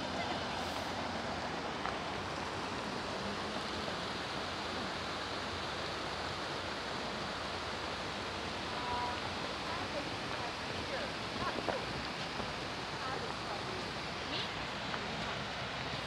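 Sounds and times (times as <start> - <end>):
small river flowing: 0.0 - 16.0.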